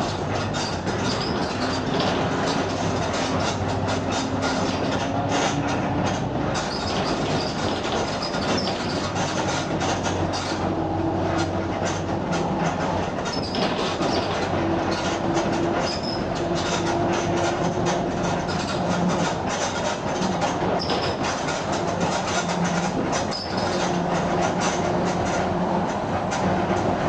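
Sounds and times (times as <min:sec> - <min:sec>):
bus diesel engine: 0:00.0 - 0:27.0.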